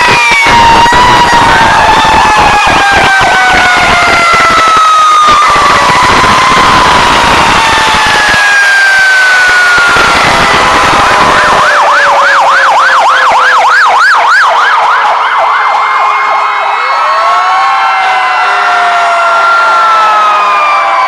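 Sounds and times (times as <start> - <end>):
fast siren yelp: 0.0 - 21.0
siren wail: 0.0 - 21.0.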